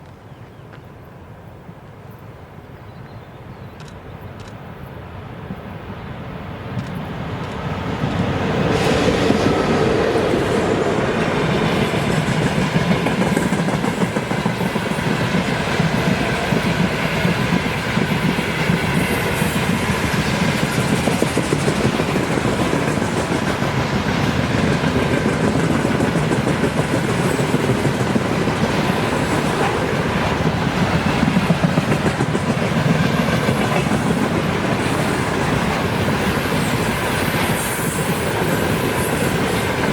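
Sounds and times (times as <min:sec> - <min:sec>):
freight train passing: 0:04.0 - 0:39.9.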